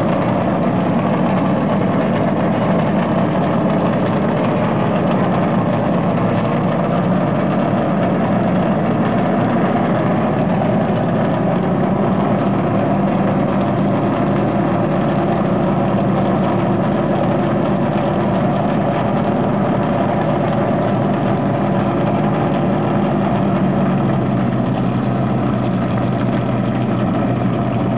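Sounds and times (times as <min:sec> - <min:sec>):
race car engine idling: 0:00.0 - 0:27.9.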